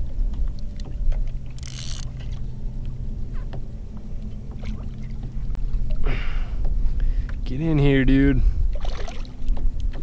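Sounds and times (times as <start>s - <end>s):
water lapping against kayak hull: 0.0s - 7.5s, 8.4s - 10.0s.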